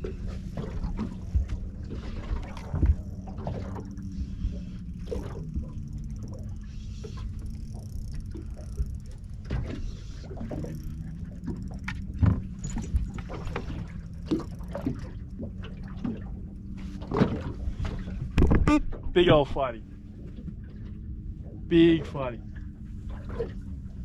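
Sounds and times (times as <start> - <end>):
steady low hum: 0.0 - 24.0
water slapping against hull: 0.0 - 24.0.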